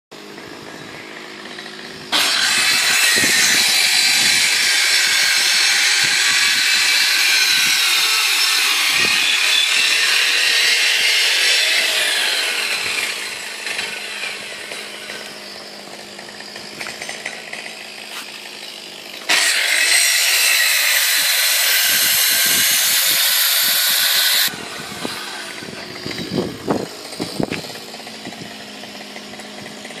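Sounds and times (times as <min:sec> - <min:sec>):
moped two-stroke engine revving: 0:00.2 - 0:30.0.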